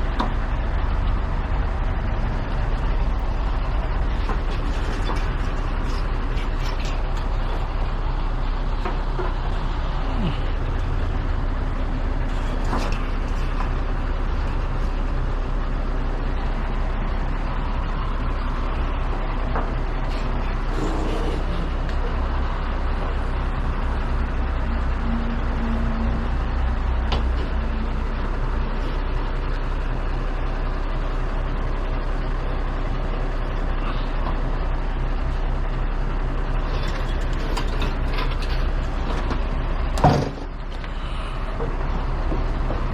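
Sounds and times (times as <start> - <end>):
truck engine droning: 0.0 - 42.9.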